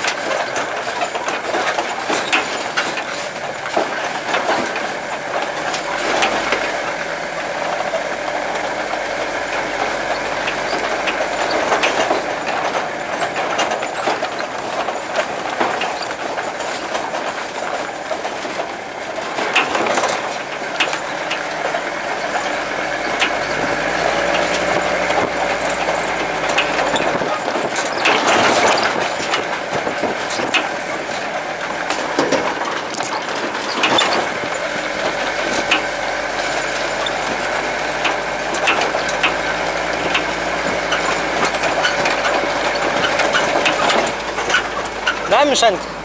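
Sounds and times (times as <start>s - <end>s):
knocks and rattles: 0.0s - 46.0s
truck engine running: 0.0s - 46.0s.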